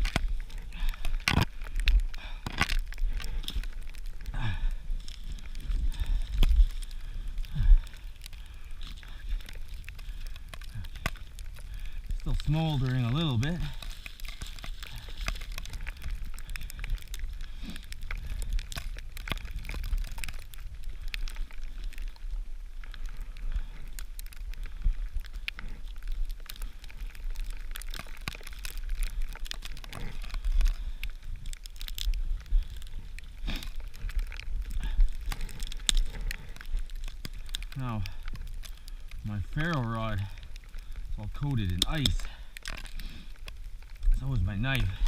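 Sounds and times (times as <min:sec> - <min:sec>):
blizzard wind buffeting microphone: 0:00.0 - 0:45.0
small crackles and clicks: 0:00.0 - 0:45.0.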